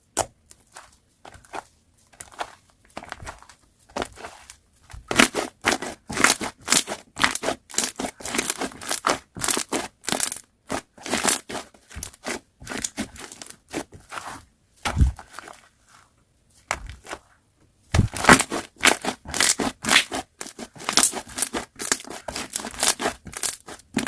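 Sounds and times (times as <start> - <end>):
hands squishing slime: 0.1 - 15.6, 17.9 - 24.0.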